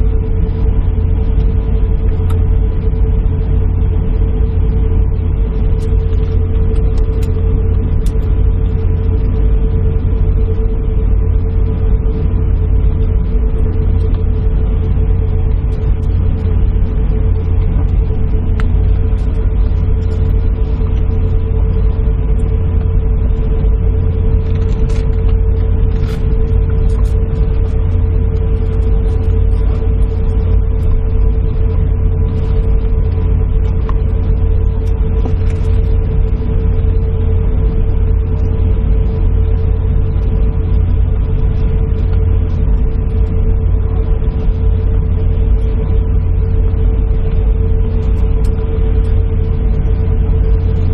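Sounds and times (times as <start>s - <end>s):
airliner cabin rumble: 0.0s - 50.9s
mid-pitched hum: 0.0s - 50.9s.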